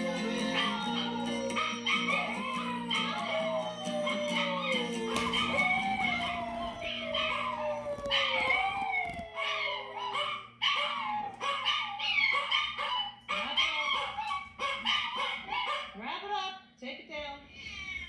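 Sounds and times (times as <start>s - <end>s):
dogs howling and yipping: 0.0s - 16.0s.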